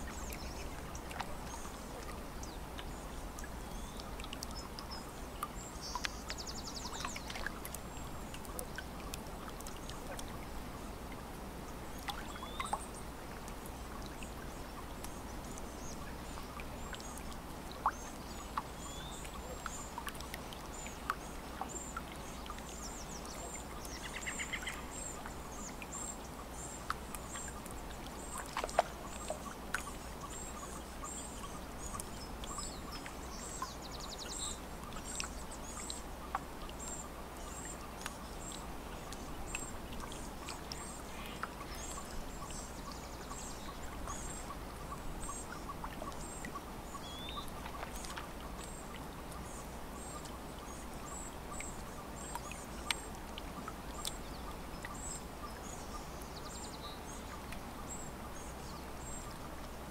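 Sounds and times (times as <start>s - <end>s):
small waves lapping at shore: 0.0s - 59.9s.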